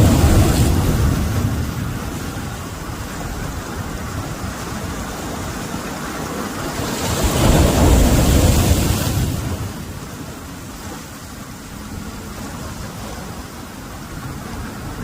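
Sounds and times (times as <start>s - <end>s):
sea surf washing in: 0.0s - 15.0s
wind rumbling on microphone: 0.0s - 15.0s.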